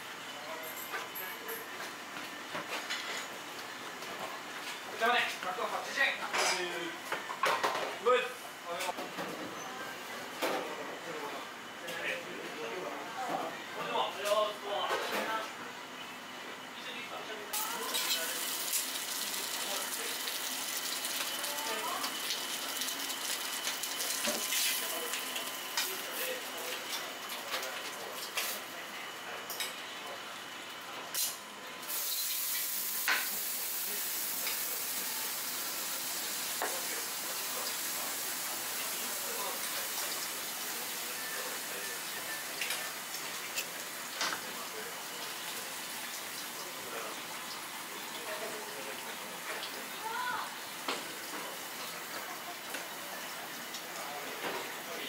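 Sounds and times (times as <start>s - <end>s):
hissing kitchen noise: 0.0s - 55.0s.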